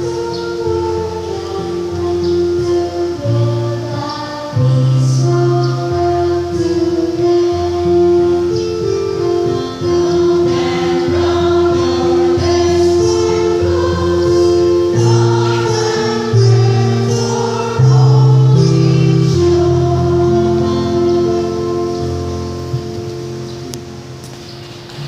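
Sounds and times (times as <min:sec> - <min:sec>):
women's choir singing: 0:00.0 - 0:23.0
sustained instrumental chords: 0:00.0 - 0:25.0.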